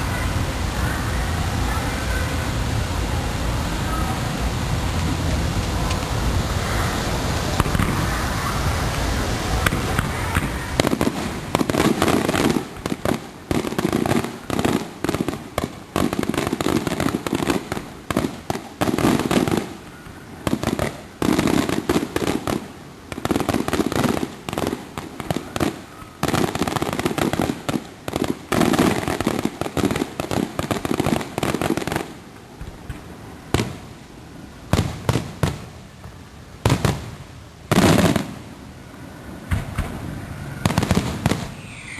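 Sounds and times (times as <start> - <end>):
fireworks bangs and crackle: 0.0 - 41.9.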